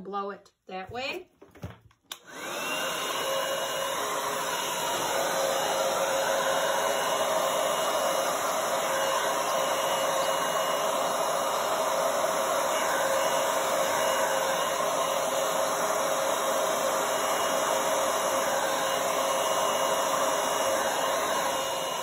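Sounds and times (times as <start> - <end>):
hair dryer running: 2.1 - 22.0.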